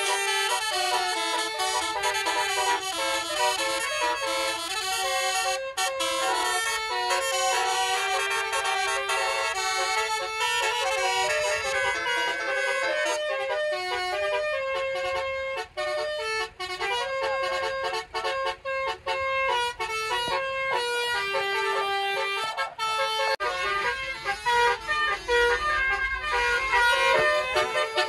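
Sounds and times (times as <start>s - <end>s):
musical air horn playing a tune: 0.0s - 28.0s.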